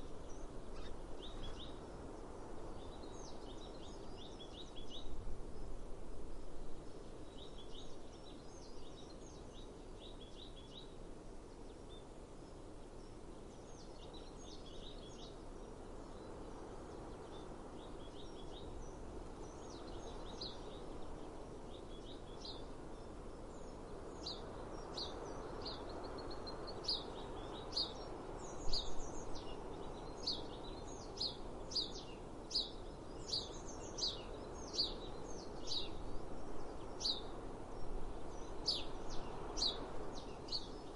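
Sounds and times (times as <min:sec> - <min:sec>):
songbirds calling: 0:00.0 - 0:40.9.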